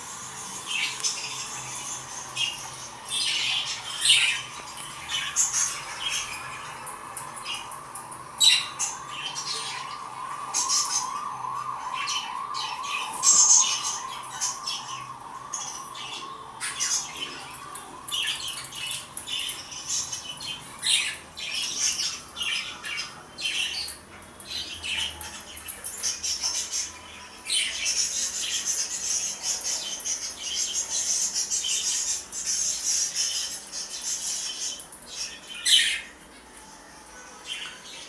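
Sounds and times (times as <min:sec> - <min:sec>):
birds squawking and chirping: 0:00.4 - 0:36.3.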